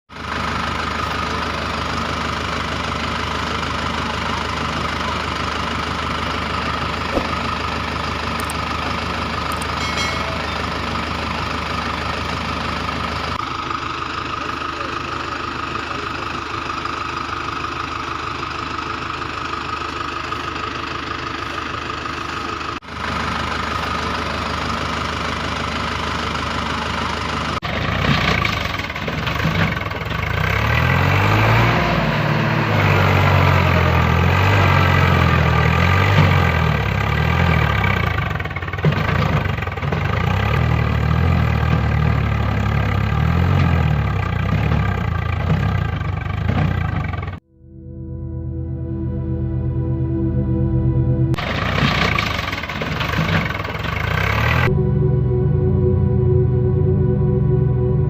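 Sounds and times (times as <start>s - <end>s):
engine idling: 0.1s - 47.5s, 49.6s - 58.0s
engine working hard: 0.1s - 47.5s, 50.9s - 58.0s.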